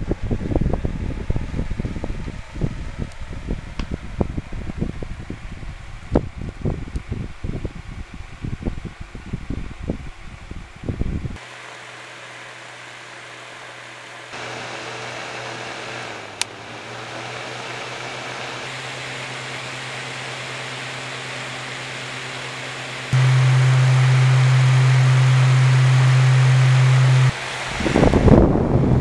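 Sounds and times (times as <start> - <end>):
desk fan running: 0.0 - 29.0.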